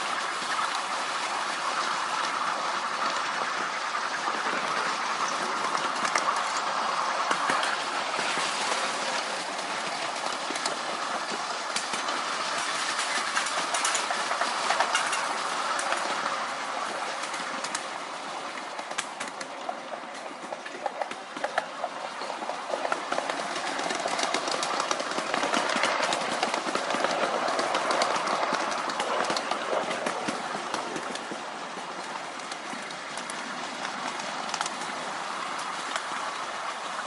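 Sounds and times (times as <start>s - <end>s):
small wheels rumbling on rails: 0.0s - 37.0s
wheels clicking over rail joints: 0.0s - 37.0s.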